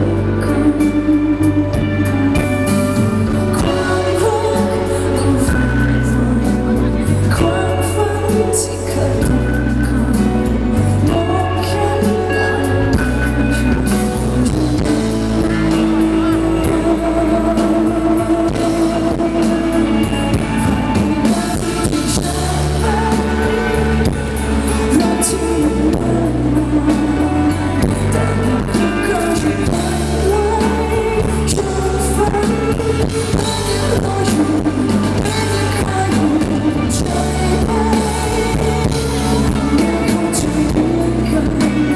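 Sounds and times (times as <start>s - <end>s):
live band playing: 0.0s - 41.9s
woman singing: 0.0s - 41.9s.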